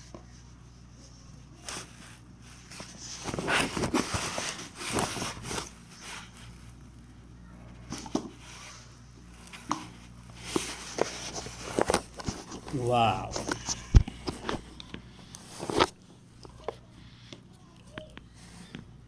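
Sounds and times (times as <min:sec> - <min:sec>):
cardboard and paper rustling: 0:00.0 - 0:06.8, 0:07.7 - 0:16.9.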